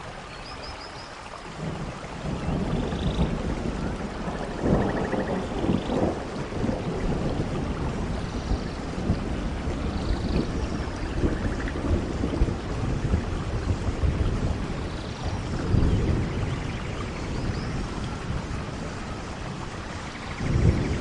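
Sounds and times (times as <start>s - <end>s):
steady rain: 0.0s - 21.0s
thunder rumbling: 1.6s - 21.0s.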